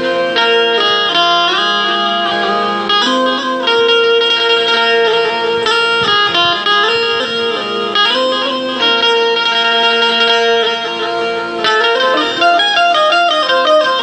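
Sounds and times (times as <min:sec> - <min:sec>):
indian banjo melody: 0:00.0 - 0:14.0.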